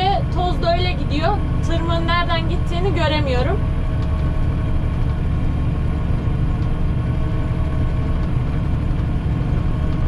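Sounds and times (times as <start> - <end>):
faint steady whine: 0.0 - 10.0
tractor diesel engine running: 0.0 - 10.0.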